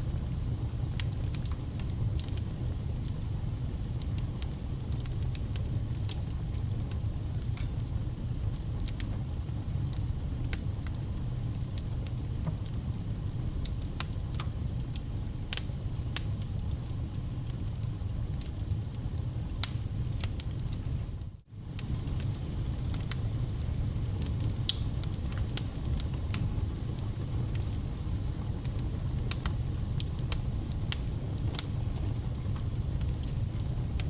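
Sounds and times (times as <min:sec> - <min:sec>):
low rumble of flames: 0:00.0 - 0:34.0
firewood crackling and popping: 0:00.1 - 0:34.0.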